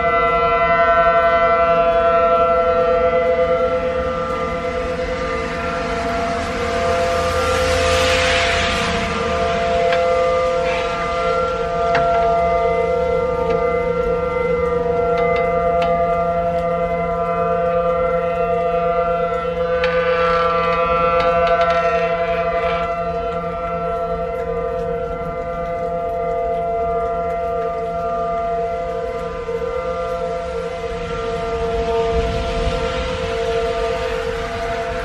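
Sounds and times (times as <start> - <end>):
outdoor warning siren: 0.0 - 35.0.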